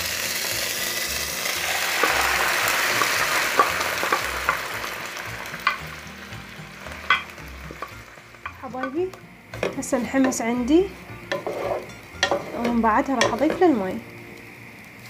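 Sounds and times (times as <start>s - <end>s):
rice sizzling in hot oil: 0.0s - 15.0s.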